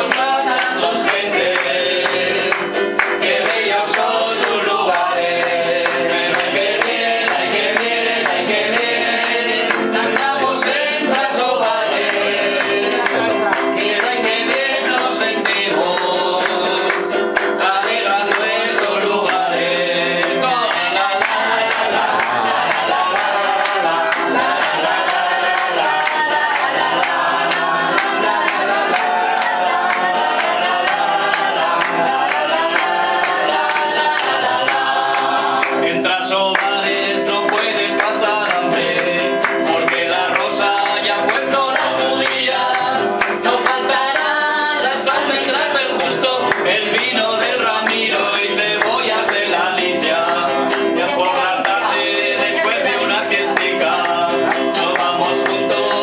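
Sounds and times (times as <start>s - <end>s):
instrumental accompaniment: 0.0s - 56.0s
person singing folk song: 0.0s - 56.0s.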